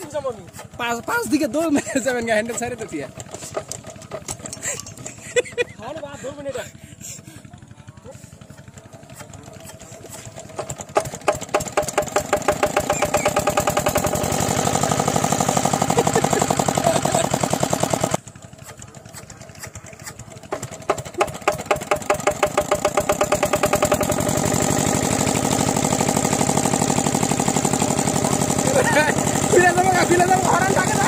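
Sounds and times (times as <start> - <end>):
diesel engine cranked and running: 0.0 - 31.0.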